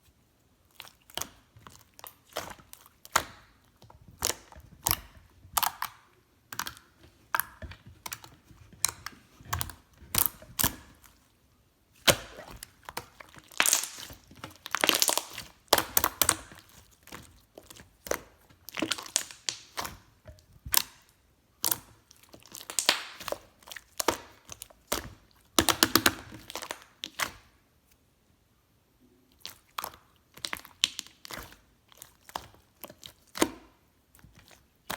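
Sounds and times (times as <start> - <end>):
slime squished by hand: 0.6 - 11.3, 12.0 - 27.5, 29.3 - 34.9.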